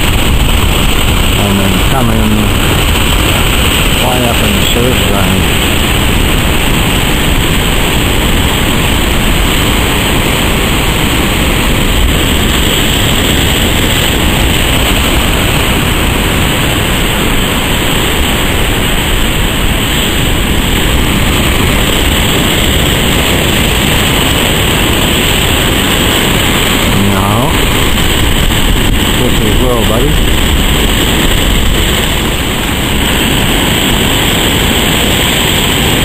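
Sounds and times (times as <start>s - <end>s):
heavy surf breaking: 0.0s - 36.0s.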